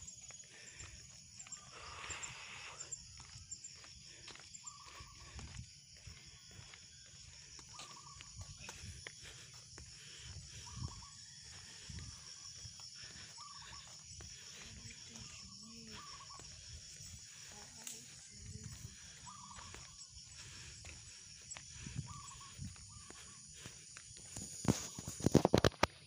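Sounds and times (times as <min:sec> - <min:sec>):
puffs of breath: 0:00.0 - 0:25.0.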